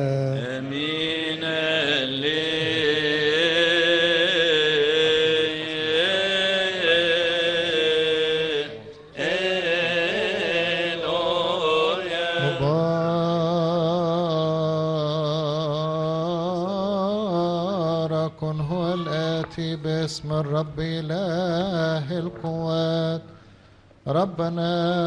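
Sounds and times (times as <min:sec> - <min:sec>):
person singing liturgical chant: 0:00.0 - 0:23.4, 0:24.0 - 0:25.0.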